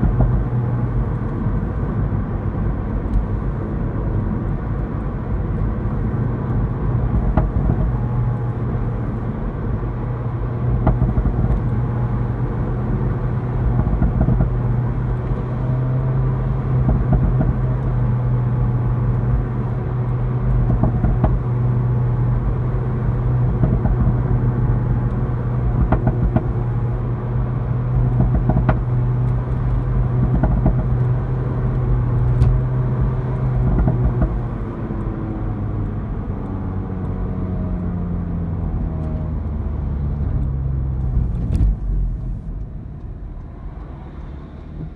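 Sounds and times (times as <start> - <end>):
car engine droning: 0.0 - 44.9
exhaust pops and crackles: 0.0 - 44.9.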